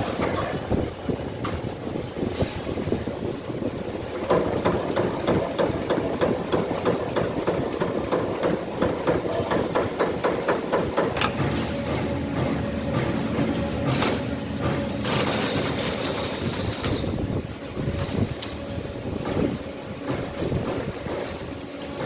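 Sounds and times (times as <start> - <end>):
steady machine hum: 0.0 - 22.0
machine punching sheet metal: 1.4 - 22.0.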